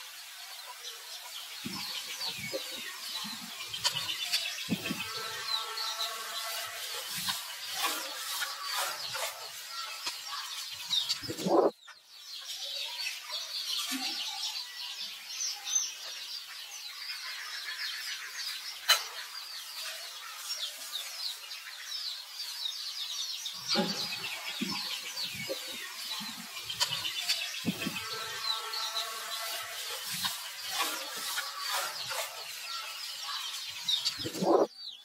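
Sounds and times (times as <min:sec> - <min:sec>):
high chirping calls: 0:00.0 - 0:35.0.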